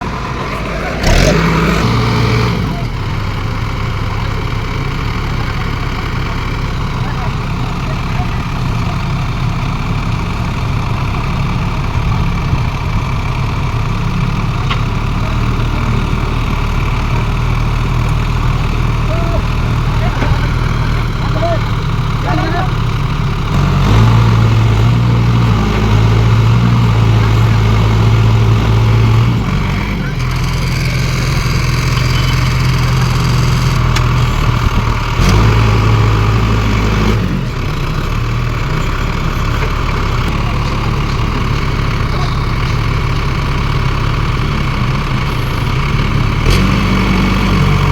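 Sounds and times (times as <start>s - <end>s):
tractor engine revving under load: 0.0s - 47.9s.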